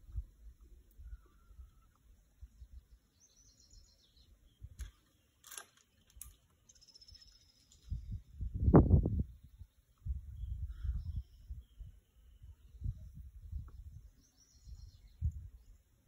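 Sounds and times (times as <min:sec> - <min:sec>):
bird chirping: 0:01.0 - 0:08.4, 0:09.1 - 0:16.0.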